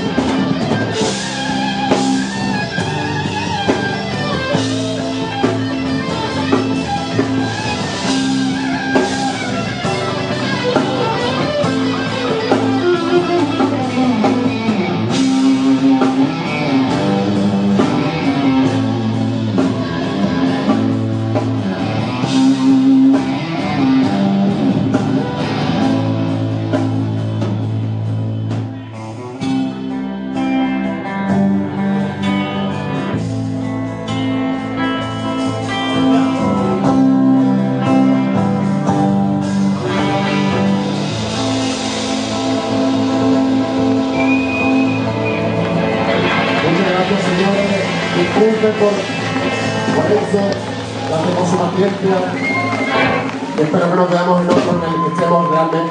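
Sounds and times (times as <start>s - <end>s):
rock band playing live: 0.0s - 55.9s.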